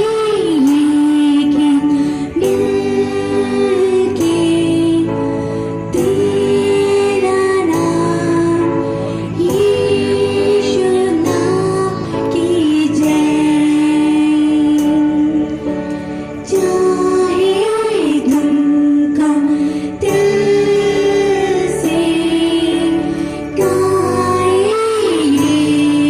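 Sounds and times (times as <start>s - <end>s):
musical accompaniment: 0.0s - 26.0s
person singing worship song: 0.0s - 26.0s.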